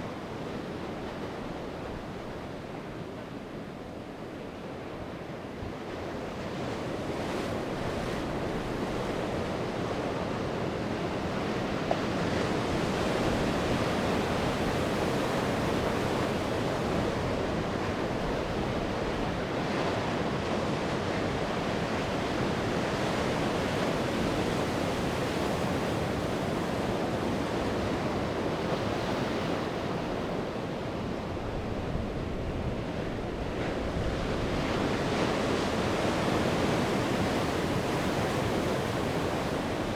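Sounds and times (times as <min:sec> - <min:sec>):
wind: 0:00.0 - 0:39.9
sea waves breaking on shore: 0:00.1 - 0:39.9.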